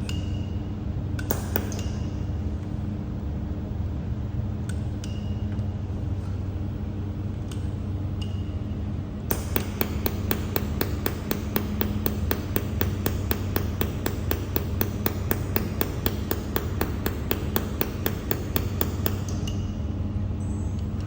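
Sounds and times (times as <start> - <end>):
machine low hum: 0.0 - 21.0.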